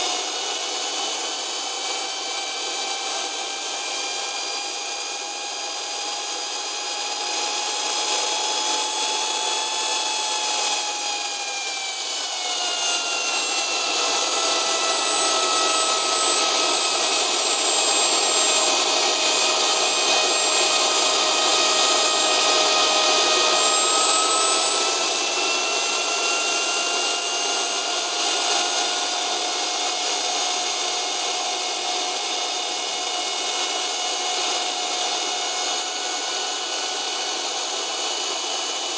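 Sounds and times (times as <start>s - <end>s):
jet engine whining: 0.0s - 17.8s, 22.7s - 38.9s.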